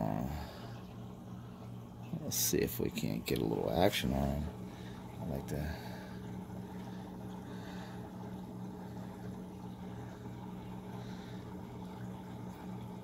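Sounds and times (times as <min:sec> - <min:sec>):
aquarium pump motor hum: 0:00.0 - 0:13.0
faint moving water: 0:00.0 - 0:13.0.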